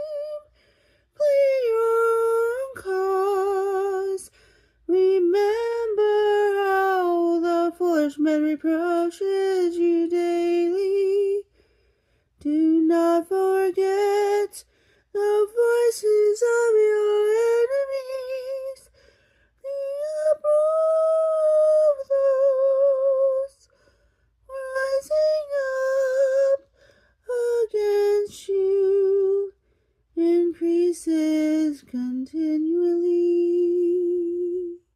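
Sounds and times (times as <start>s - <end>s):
woman singing unaccompanied: 0.0s - 11.5s, 12.4s - 19.0s, 19.6s - 23.8s, 24.4s - 34.9s.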